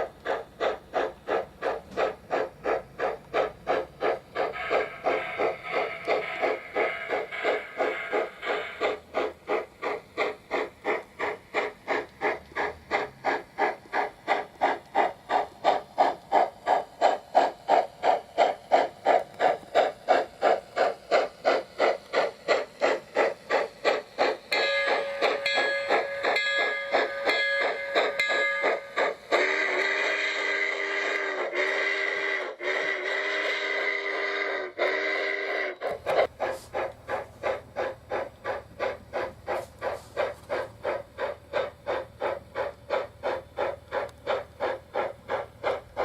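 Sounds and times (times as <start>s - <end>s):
model steam locomotive chuffing: 0.0s - 46.0s.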